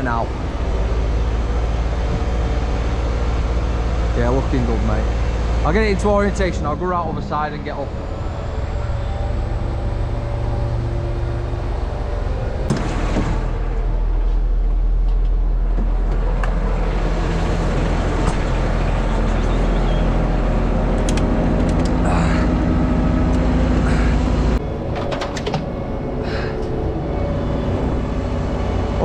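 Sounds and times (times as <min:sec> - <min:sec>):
crane diesel engine running: 0:00.0 - 0:29.0.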